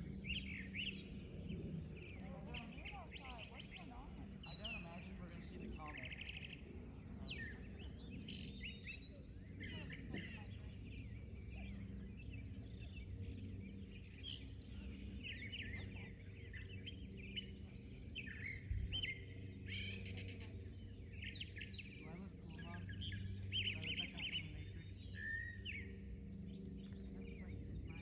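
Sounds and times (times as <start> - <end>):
low background hum: 0.0 - 28.0
small birds chirping and singing: 0.0 - 28.0.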